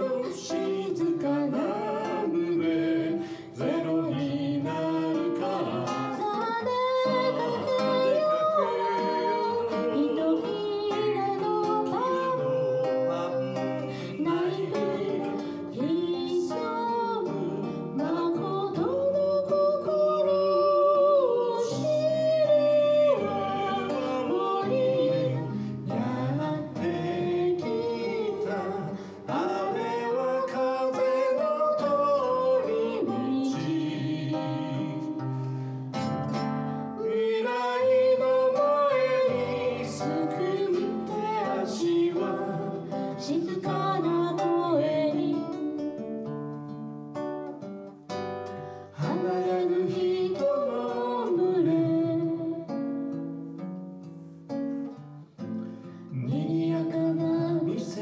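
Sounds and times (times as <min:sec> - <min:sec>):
man singing: 0:00.0 - 0:35.4, 0:37.0 - 0:45.8, 0:49.0 - 0:52.5, 0:56.1 - 0:58.0
strummed acoustic guitar: 0:00.0 - 0:58.0.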